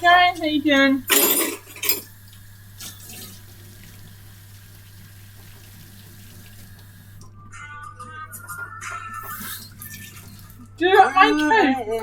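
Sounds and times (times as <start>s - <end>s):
water running: 0.0s - 7.4s, 9.0s - 12.0s.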